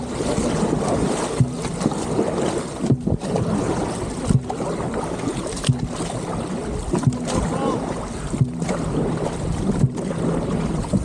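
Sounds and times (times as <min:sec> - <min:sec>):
paddle strokes in water: 0:00.0 - 0:11.0
wind noise on microphone: 0:00.0 - 0:11.0.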